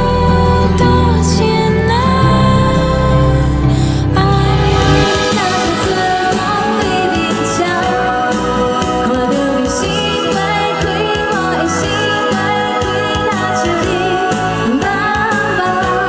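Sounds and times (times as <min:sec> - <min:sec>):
pop love song with singing: 0:00.0 - 0:16.0.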